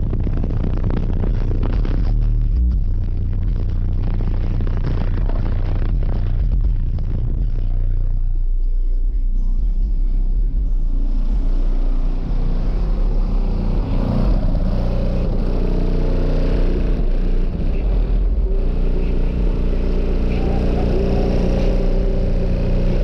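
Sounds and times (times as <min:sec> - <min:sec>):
bass-heavy music through subwoofers: 0:00.0 - 0:23.0.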